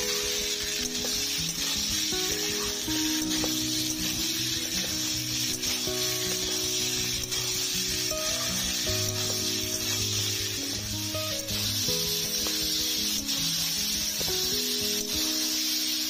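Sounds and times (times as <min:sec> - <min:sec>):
background music slow held notes: 0:00.0 - 0:16.0
metal spatula scraping wok: 0:00.0 - 0:16.0
vegetables sizzling in oil: 0:00.0 - 0:16.0.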